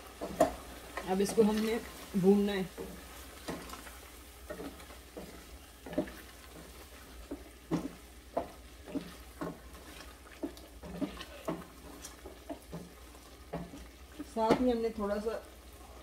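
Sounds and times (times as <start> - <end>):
faint sizzle: 0.0 - 16.0
wooden spoon scraping a pot: 0.0 - 16.0.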